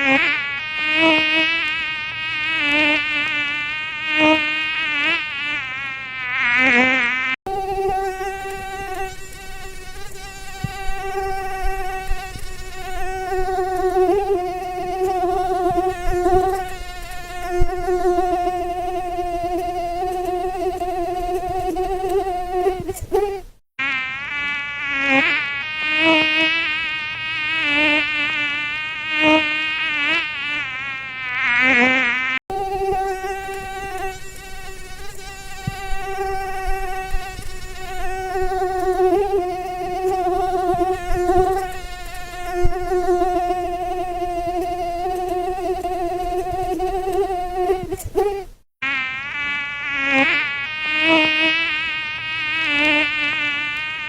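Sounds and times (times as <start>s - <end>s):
mosquito wingbeat whine: 0.0s - 54.0s.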